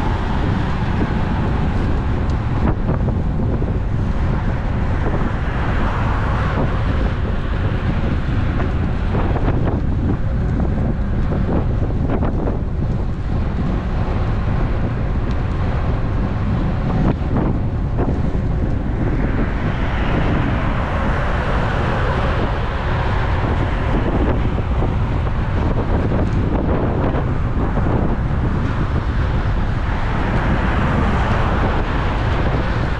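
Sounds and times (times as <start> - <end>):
steady low rumble from riding: 0.0 - 32.9
wind buffeting microphone: 0.0 - 32.9.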